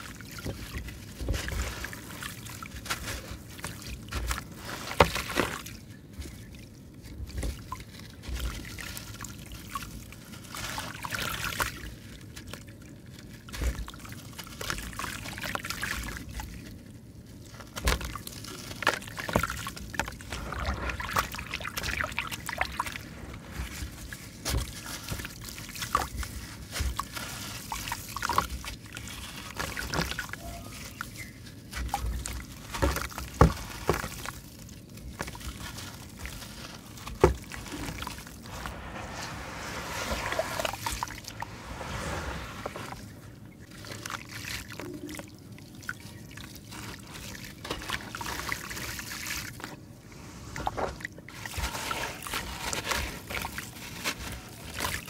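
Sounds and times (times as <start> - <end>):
grit trickling into water: 0.0 - 55.0.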